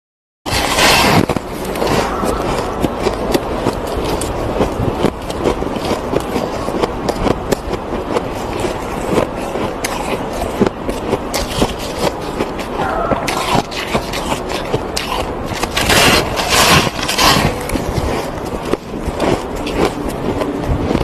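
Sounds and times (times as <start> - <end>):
snow crunching being chewed: 0.5 - 21.0.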